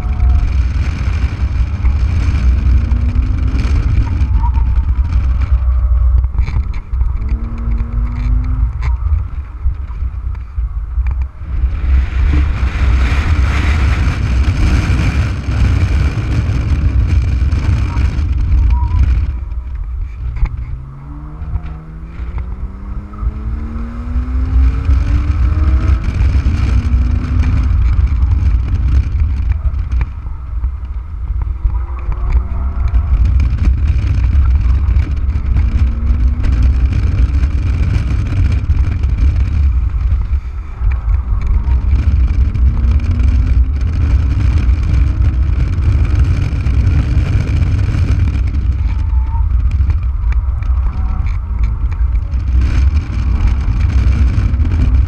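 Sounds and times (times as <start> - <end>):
car engine running hard: 0.0 - 55.0
wind buffeting on microphone: 0.0 - 55.0.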